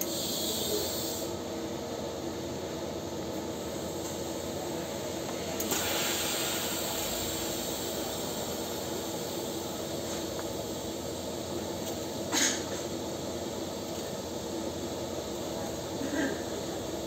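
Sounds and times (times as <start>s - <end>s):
welding arc hissing: 0.0s - 1.5s, 3.3s - 17.0s.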